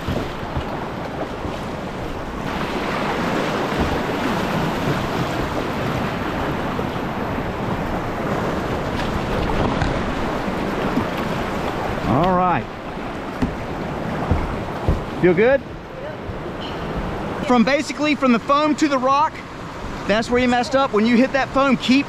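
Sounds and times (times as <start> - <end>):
whitewater rapid rushing: 0.0 - 22.0.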